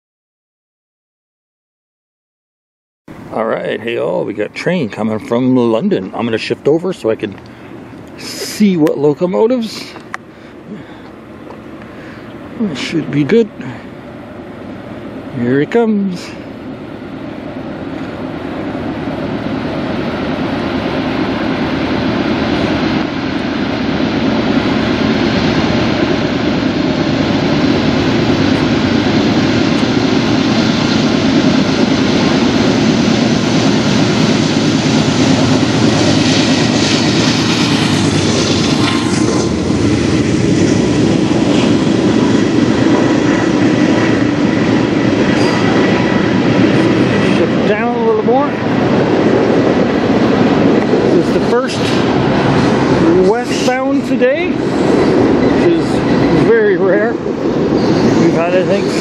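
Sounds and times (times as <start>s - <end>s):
diesel locomotive engines: 3.1s - 59.0s
freight cars rumbling and clattering: 3.1s - 59.0s.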